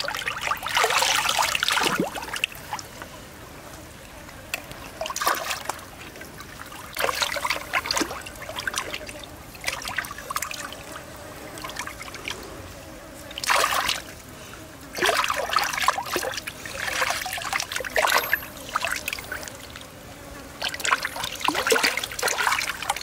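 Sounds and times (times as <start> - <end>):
water splashing: 0.0 - 3.1, 4.0 - 11.0, 13.3 - 14.2, 14.9 - 20.0, 20.6 - 23.0
stream trickling: 0.0 - 23.0.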